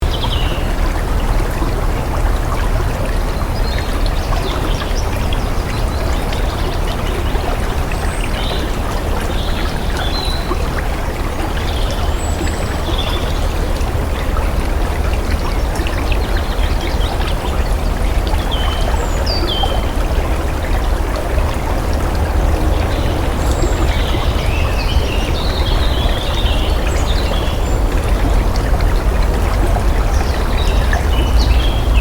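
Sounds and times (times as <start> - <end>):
water flowing and splashing: 0.0 - 32.0.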